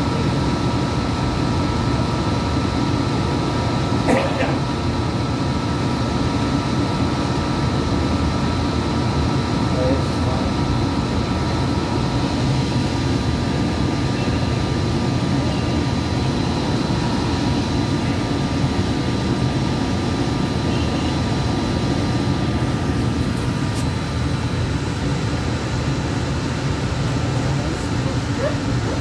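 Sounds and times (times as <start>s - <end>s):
thin steady whine: 0.0s - 29.0s.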